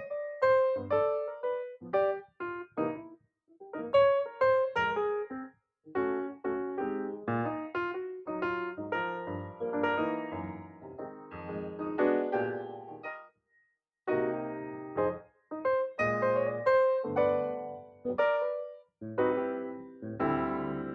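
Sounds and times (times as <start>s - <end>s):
piano music: 0.0s - 3.1s, 3.7s - 13.3s, 14.1s - 20.9s.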